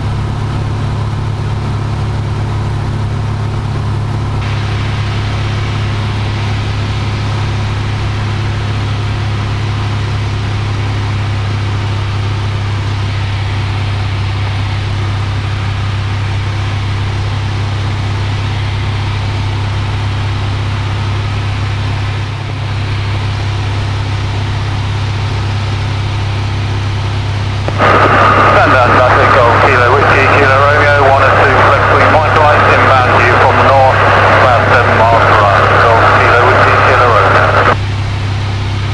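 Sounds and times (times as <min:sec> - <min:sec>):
airplane engine and propeller droning: 0:00.0 - 0:38.9.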